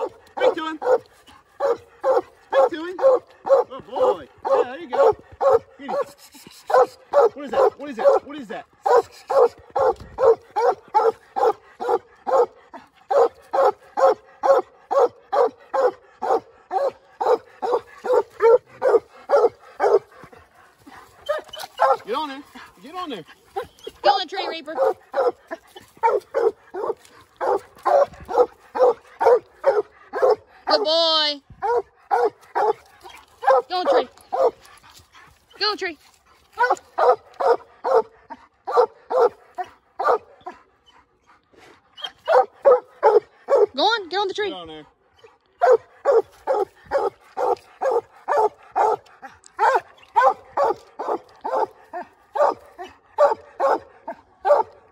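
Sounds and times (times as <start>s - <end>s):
hounds barking: 0.0s - 35.1s, 36.4s - 41.2s, 42.0s - 44.0s, 45.1s - 54.9s.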